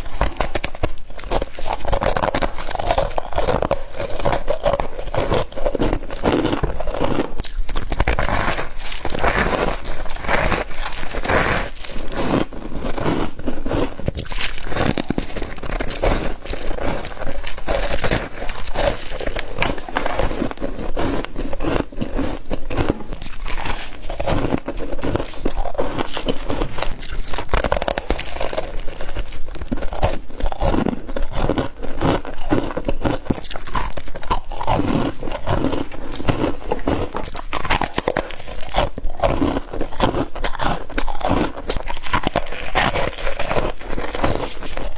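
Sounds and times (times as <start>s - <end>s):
chewing crunchy frost: 0.0s - 44.9s.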